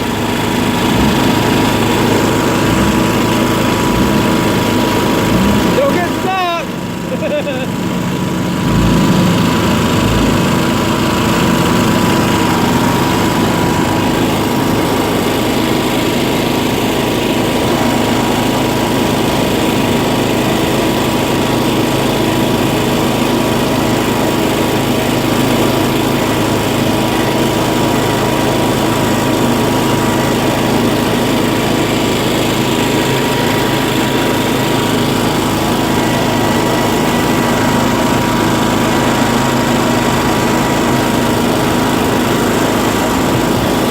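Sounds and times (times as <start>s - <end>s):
small engine running steadily: 0.0s - 43.9s.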